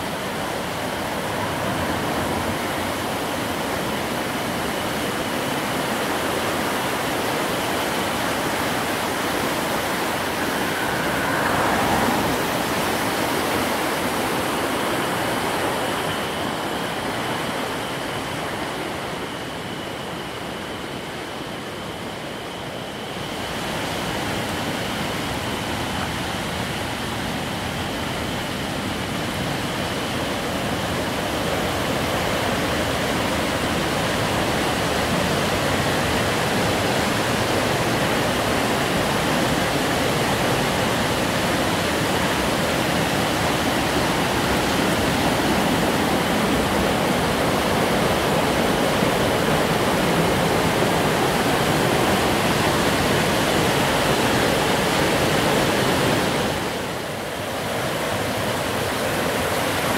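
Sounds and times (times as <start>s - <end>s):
stream rushing over rapids: 0.0s - 59.9s.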